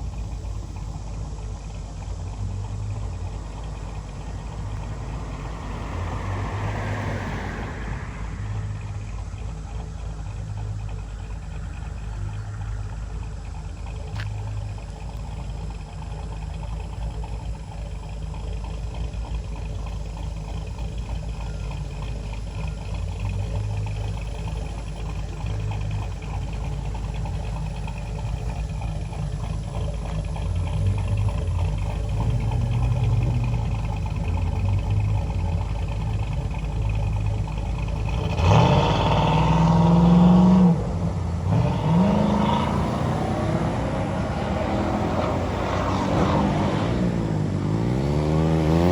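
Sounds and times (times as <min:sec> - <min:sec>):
engine idling with loping rumble: 0:00.0 - 0:48.9
engine revving: 0:00.0 - 0:48.9.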